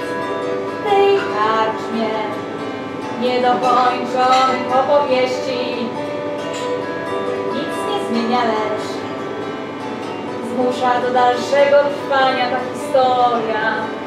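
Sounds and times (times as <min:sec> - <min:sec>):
harp plucked melody: 0:00.0 - 0:14.0.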